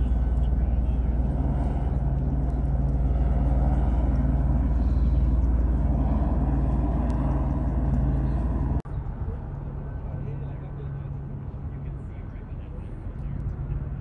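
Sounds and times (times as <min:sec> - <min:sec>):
low mechanical rumble and hum: 0:00.0 - 0:14.0.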